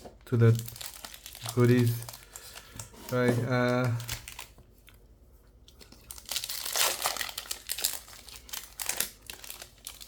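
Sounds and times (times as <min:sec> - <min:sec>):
foil wrapper crinkling: 0:00.3 - 0:04.6, 0:05.8 - 0:10.0.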